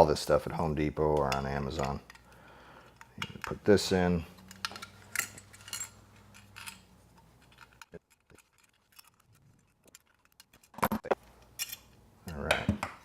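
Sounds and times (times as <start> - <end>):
metal parts clicking and clinking: 1.1 - 12.5.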